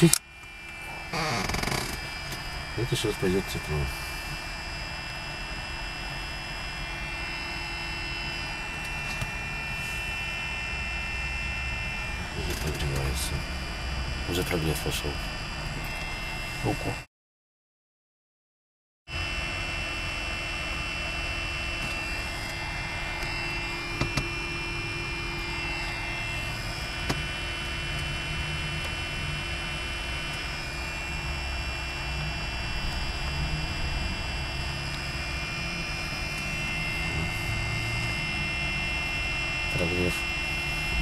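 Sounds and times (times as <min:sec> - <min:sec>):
electric fan whirring: 0:00.0 - 0:17.0, 0:19.1 - 0:41.0.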